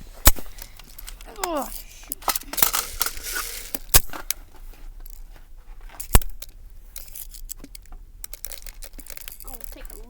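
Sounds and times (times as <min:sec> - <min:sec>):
clicks and rattling: 0:00.3 - 0:04.4, 0:06.0 - 0:10.0.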